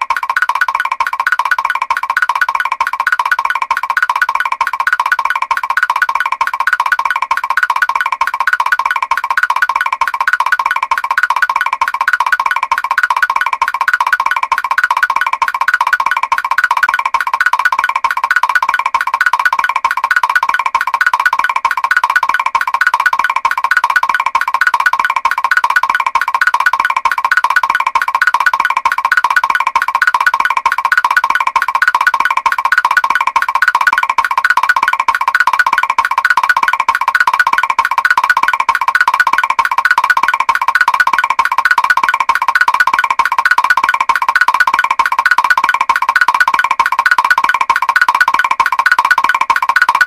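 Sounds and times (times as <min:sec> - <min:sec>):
cartoon walking sound effect: 0:00.0 - 0:50.0
rapid pitched clicking taps: 0:00.0 - 0:50.0.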